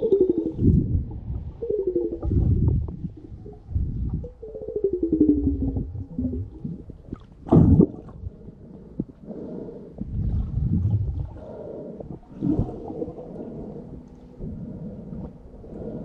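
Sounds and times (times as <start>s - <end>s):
muffled underwater gurgling: 0.0s - 16.0s.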